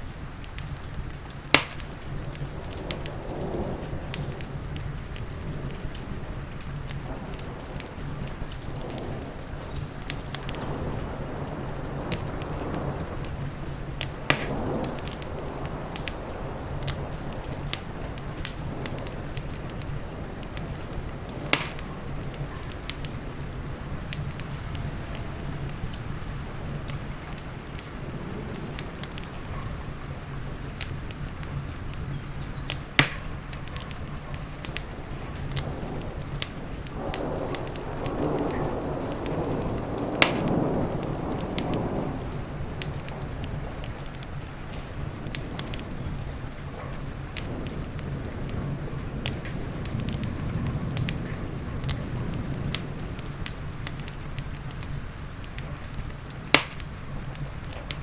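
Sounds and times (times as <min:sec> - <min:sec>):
low roar of fire: 0:00.0 - 0:58.0
wood fire crackling: 0:00.0 - 0:58.0
sharp pops of fire: 0:00.1 - 0:27.9, 0:28.5 - 0:29.8, 0:30.4 - 0:58.0.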